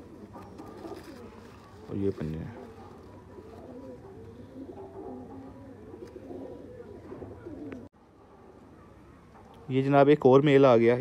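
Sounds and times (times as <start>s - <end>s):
pigeon cooing: 0.0s - 9.4s.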